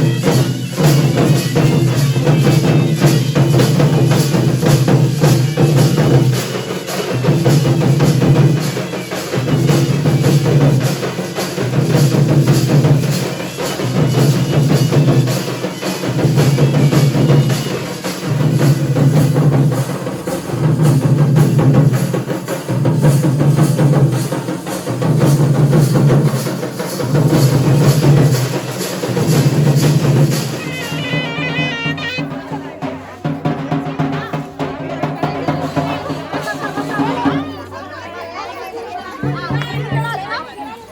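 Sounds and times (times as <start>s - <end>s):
deep drum beat: 0.0s - 6.6s, 7.2s - 8.8s, 9.4s - 37.8s, 39.2s - 40.2s
drums playing fast strokes: 0.0s - 40.6s.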